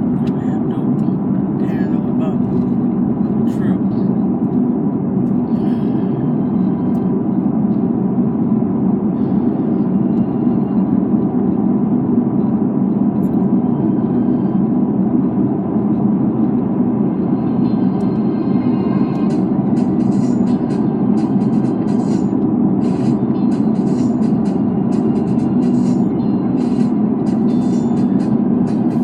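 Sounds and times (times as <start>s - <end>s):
car cabin road and engine noise: 0.0s - 29.0s.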